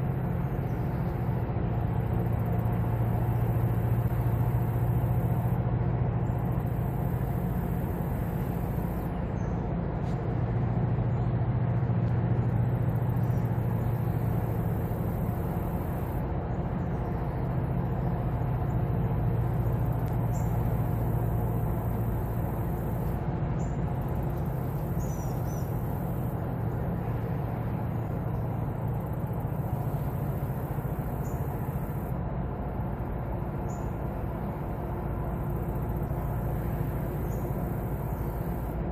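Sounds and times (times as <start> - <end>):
diesel engines droning: 0.0 - 38.9.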